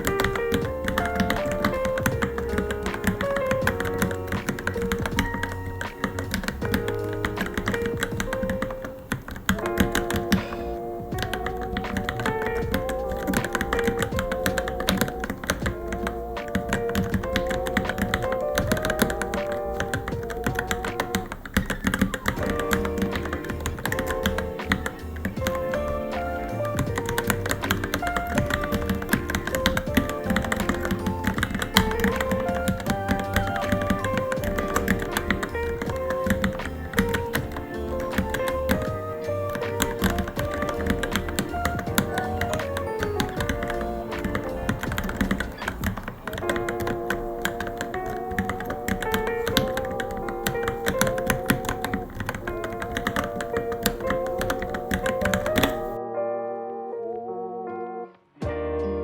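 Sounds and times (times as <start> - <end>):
keyboard typing clacks: 0.0 - 56.0
melodic background music: 0.0 - 59.0.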